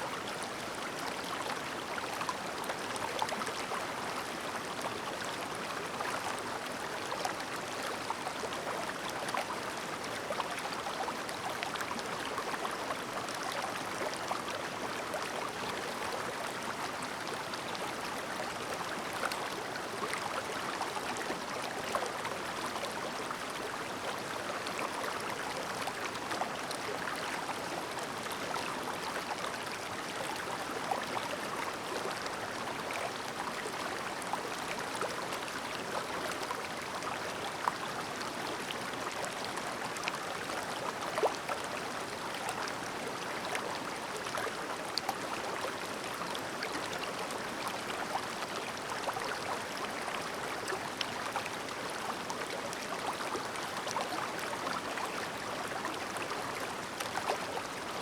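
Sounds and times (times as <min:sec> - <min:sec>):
mountain stream babbling: 0:00.0 - 0:58.0.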